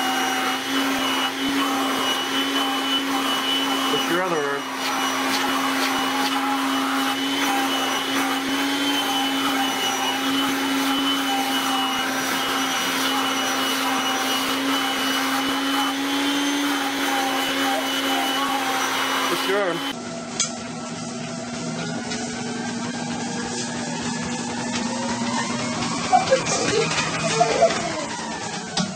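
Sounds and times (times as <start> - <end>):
appliance electric motor humming: 0.0 - 28.9.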